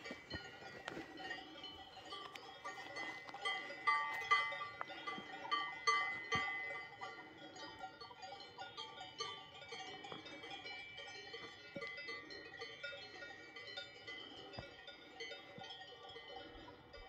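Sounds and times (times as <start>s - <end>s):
cowbells clanking: 0.0s - 17.0s.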